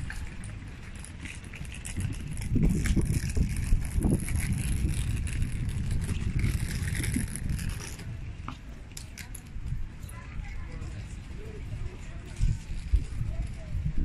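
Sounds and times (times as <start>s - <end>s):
suitcase rolling over cobblestones: 0.0s - 14.0s.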